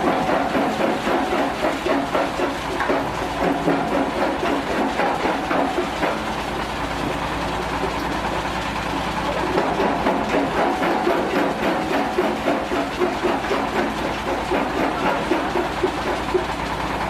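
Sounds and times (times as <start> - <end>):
rapid uneven clatter: 0.0 - 17.0
stone crusher motor hum: 0.0 - 17.0.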